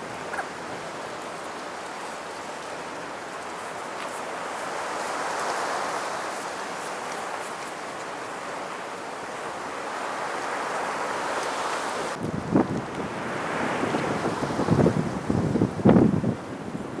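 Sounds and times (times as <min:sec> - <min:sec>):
wind rushing through trees: 0:00.0 - 0:17.0.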